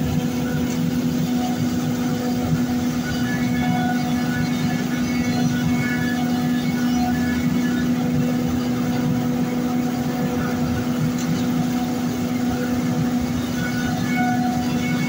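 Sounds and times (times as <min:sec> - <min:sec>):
hay grinder running: 0:00.0 - 0:15.0.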